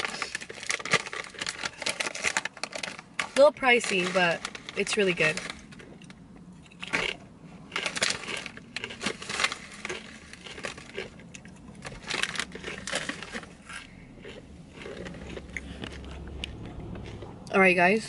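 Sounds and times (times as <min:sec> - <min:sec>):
chip bag crinkling: 0:00.0 - 0:17.3
chewing crunchy chips: 0:00.0 - 0:17.6.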